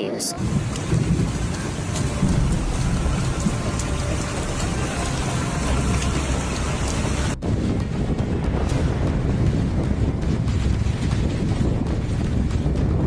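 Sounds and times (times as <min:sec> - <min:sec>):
heavy rain pouring: 0:00.3 - 0:13.0
dull rushing noise: 0:00.4 - 0:13.0
wind buffeting microphone: 0:00.4 - 0:13.0.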